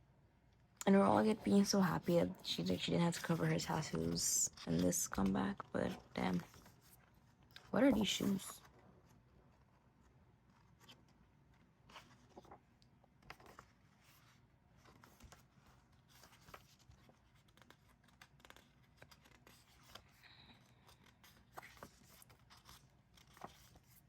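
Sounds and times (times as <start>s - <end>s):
paper rustling: 2.6s - 24.0s.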